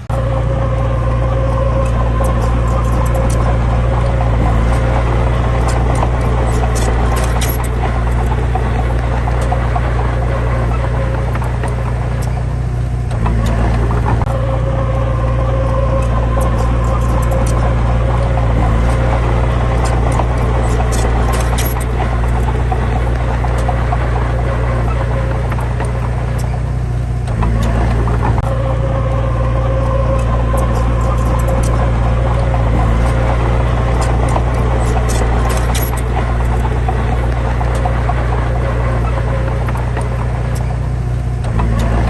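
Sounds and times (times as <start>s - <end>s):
diesel engine running: 0.0s - 42.0s
metal parts squeaking and clicking: 0.0s - 42.0s.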